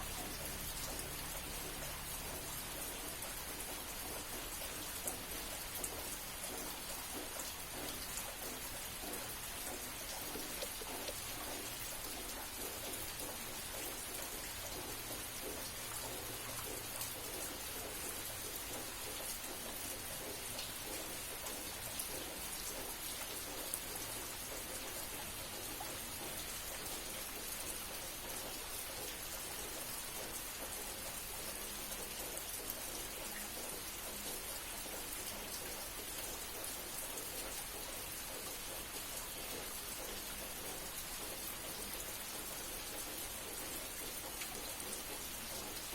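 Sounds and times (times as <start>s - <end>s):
raindrops ticking on surfaces: 0.0s - 45.9s
steady rain falling: 0.0s - 45.9s.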